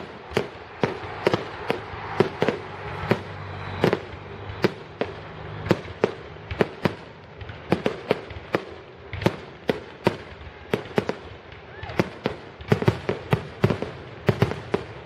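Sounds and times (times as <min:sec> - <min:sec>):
fireworks bursting with bangs: 0:00.0 - 0:15.0
fireworks crackle and rumble: 0:00.0 - 0:15.0.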